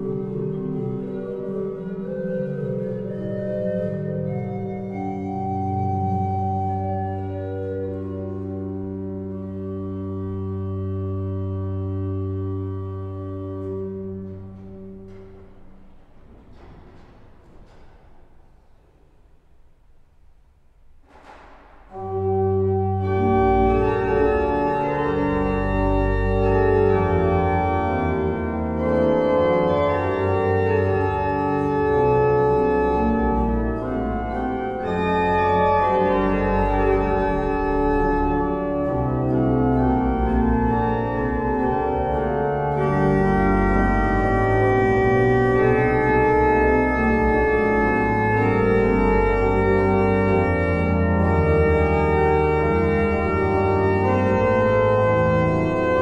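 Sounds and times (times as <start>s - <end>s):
pipe organ playing loud chords: 0.0s - 18.8s, 21.1s - 56.0s.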